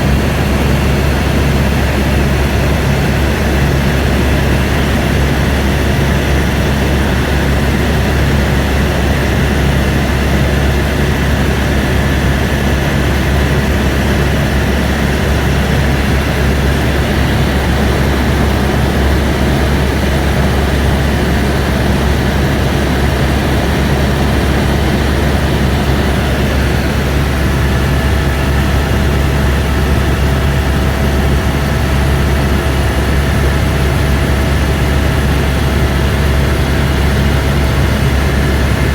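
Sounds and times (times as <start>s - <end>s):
helicopter drone in cabin: 0.0s - 38.9s.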